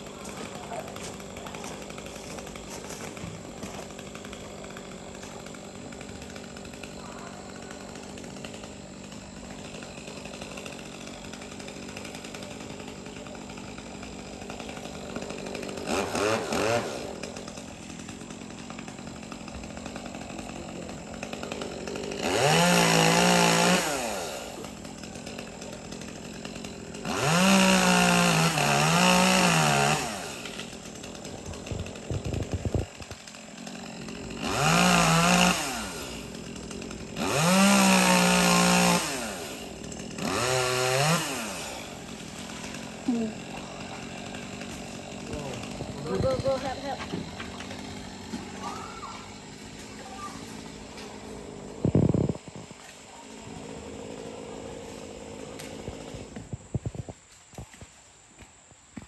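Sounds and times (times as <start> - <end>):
chainsaw revving: 0.0 - 57.9.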